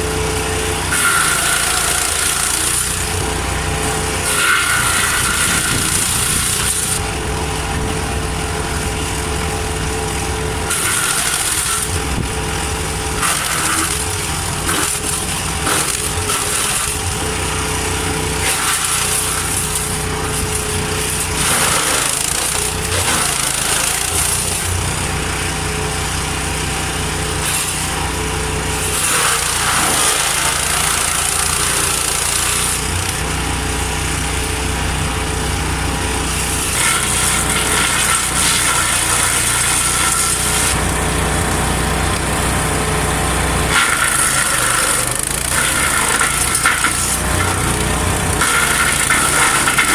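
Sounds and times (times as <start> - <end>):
wood chipper engine running: 0.0 - 49.9.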